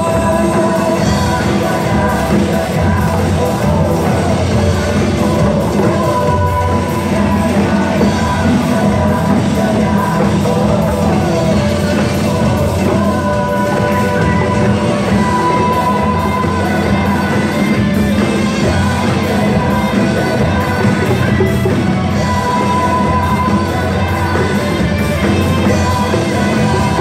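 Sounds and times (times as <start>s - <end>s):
hand drums playing: 0.0s - 27.0s
pop music with singing: 0.0s - 27.0s.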